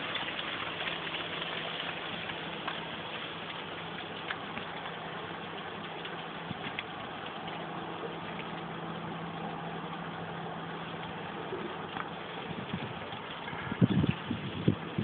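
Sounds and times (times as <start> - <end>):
hail falling: 0.0 - 15.0
low steady hum: 0.0 - 15.0.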